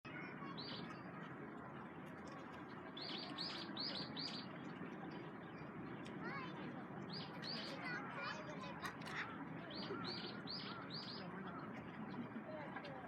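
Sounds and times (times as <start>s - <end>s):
steady background noise: 0.1s - 13.0s.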